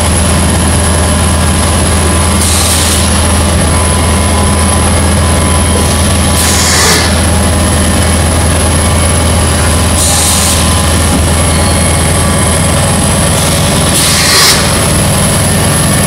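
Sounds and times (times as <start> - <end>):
factory motors droning: 0.0 - 16.0.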